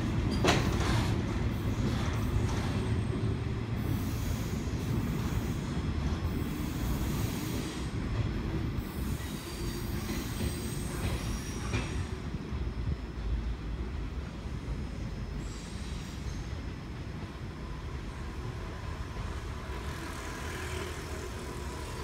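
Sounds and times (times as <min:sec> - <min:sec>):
freight train rumbling on rails: 0:00.0 - 0:22.0
train wheels squealing: 0:00.3 - 0:13.3, 0:14.8 - 0:17.0, 0:17.7 - 0:22.0.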